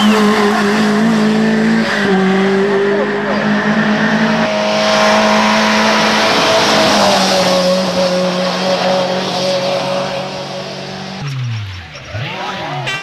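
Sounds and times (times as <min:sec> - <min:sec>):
racing car engine at high revs: 0:00.0 - 0:13.0.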